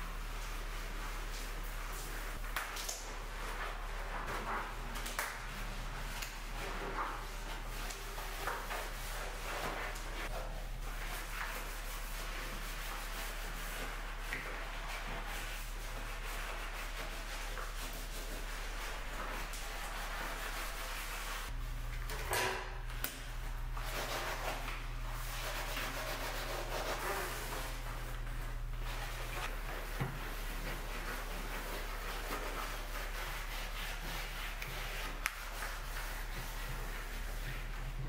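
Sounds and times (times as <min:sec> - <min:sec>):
sponge scrubbing tile: 0:00.0 - 0:21.8, 0:23.3 - 0:38.0.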